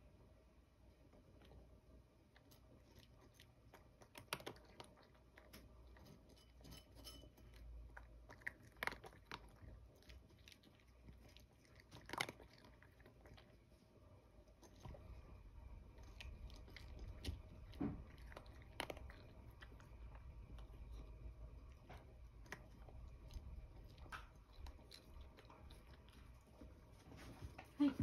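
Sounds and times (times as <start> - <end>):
cat chewing and crunching: 0.7 - 28.0.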